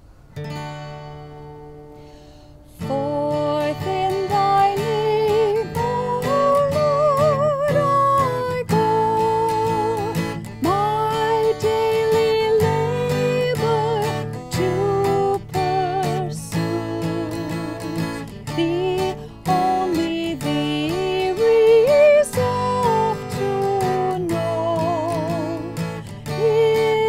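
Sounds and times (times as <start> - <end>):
strummed acoustic guitar: 0.1 - 27.0
woman singing a hymn: 2.7 - 27.0.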